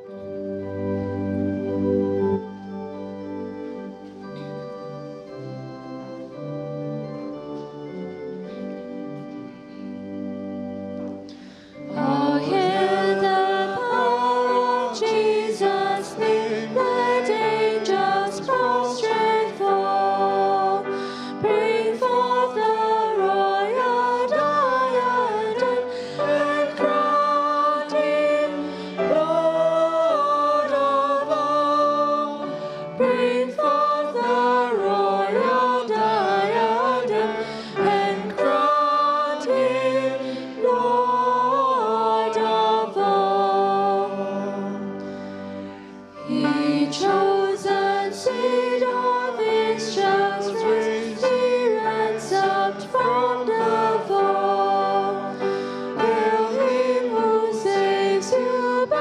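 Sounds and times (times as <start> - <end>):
instrumental accompaniment: 0.0 - 59.0
group singing a hymn: 11.1 - 59.0.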